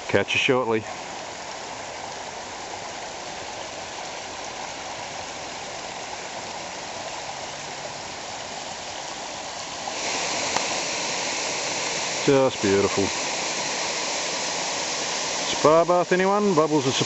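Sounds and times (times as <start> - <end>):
creek rushing over rocks: 0.0 - 17.0
small waterfall: 0.0 - 17.0.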